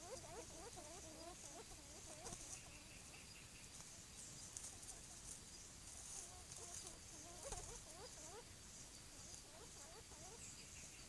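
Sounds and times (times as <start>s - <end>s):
high insect hiss: 0.0s - 11.0s.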